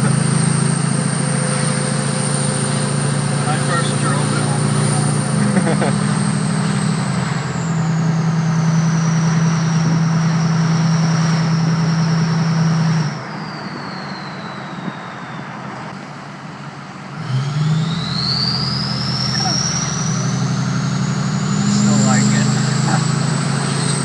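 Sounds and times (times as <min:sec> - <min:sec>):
turbo whistling: 0:00.0 - 0:16.0, 0:17.3 - 0:24.0
diesel engine revving: 0:00.0 - 0:24.0.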